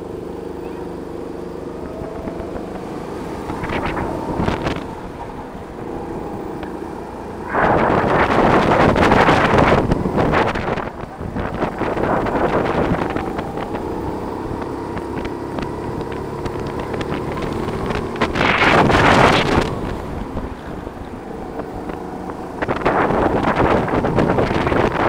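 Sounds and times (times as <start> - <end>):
go-kart engine running: 0.0 - 25.0
wind noise on microphone: 1.6 - 25.0.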